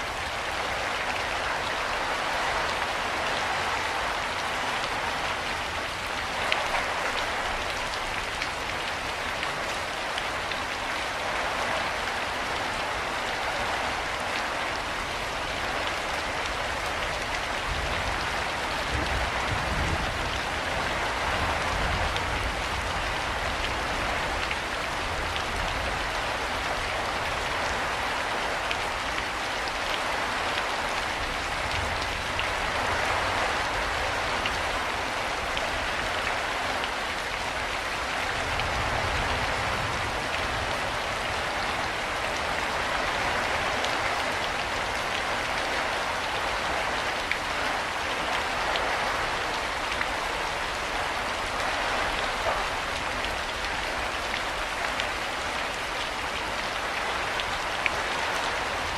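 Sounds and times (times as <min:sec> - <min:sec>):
rain falling: 0:00.0 - 0:58.9.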